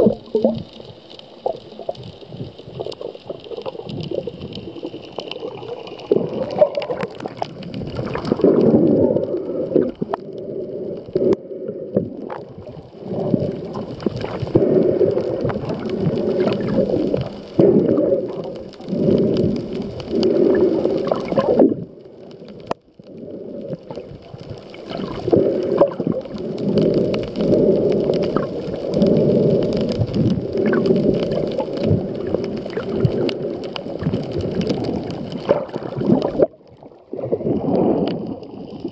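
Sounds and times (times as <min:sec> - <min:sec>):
muffled underwater water swirling: 0:00.0 - 0:38.9.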